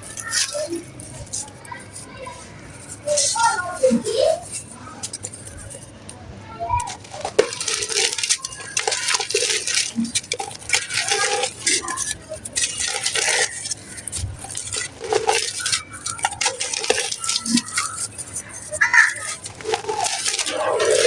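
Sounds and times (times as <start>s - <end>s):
dry clay crunching and crackling: 0.0s - 21.0s.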